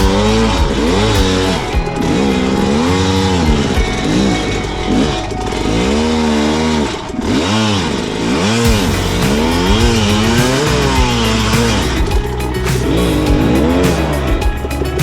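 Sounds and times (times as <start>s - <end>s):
dirt bike engine revving: 0.0s - 14.4s.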